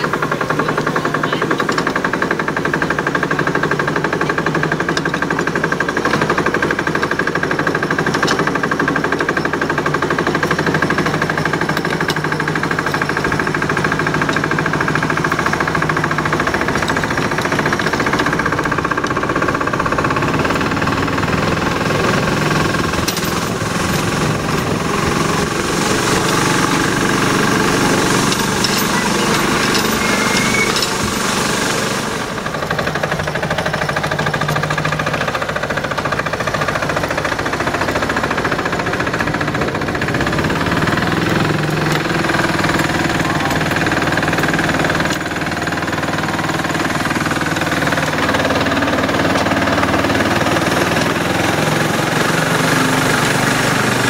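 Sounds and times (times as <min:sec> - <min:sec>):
miniature locomotive engine rattling: 0:00.0 - 0:54.0.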